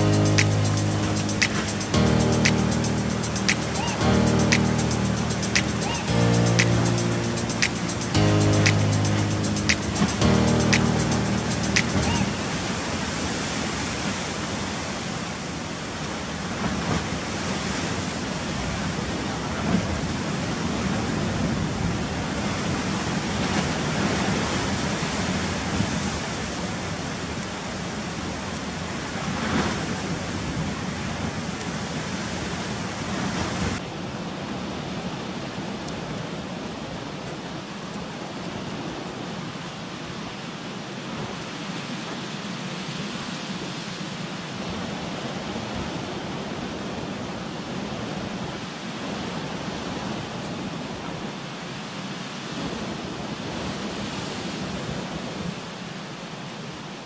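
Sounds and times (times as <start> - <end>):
sea surf: 0.0 - 57.0
wind: 0.0 - 57.0.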